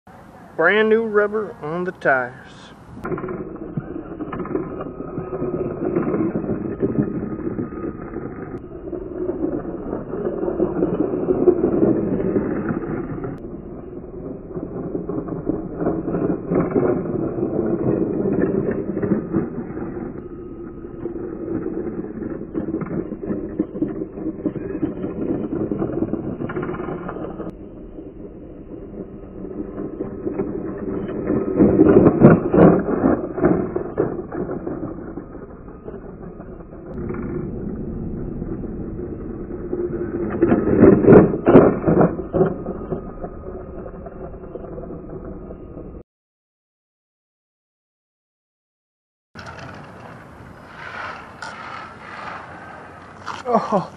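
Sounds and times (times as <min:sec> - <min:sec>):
rc car motor and tyres on asphalt: 0:00.1 - 0:46.0, 0:49.4 - 0:53.9.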